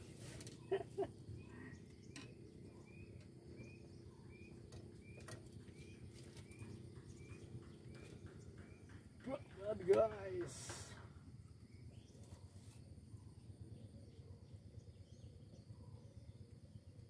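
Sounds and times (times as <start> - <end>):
small bird chirping: 0.1 - 10.4, 11.4 - 17.0.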